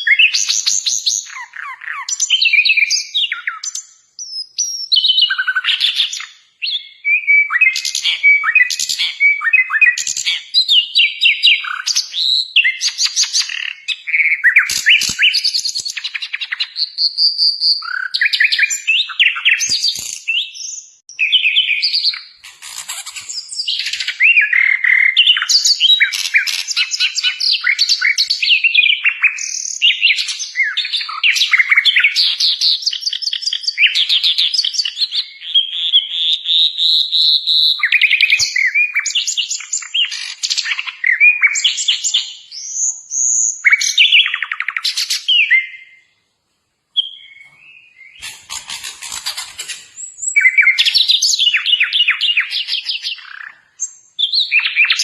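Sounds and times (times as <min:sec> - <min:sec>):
bird singing varied song: 0:00.0 - 0:46.3, 0:46.9 - 0:55.0.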